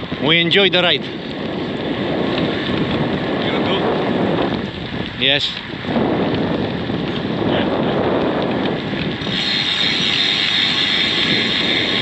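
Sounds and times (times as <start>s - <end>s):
tyres rolling on wet road: 0.0s - 12.0s
wind buffeting microphone: 0.0s - 12.0s.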